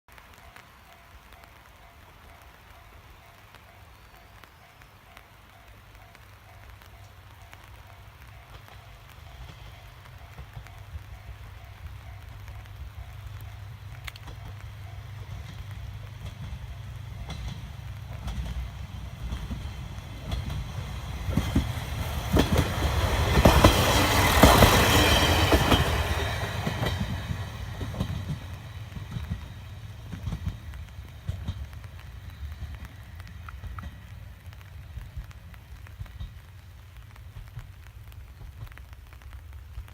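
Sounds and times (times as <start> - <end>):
light ticks: 0.2 - 20.6, 26.7 - 39.9
diesel railcar passing: 0.2 - 39.9
wheels clacking over rail joints: 0.9 - 39.2.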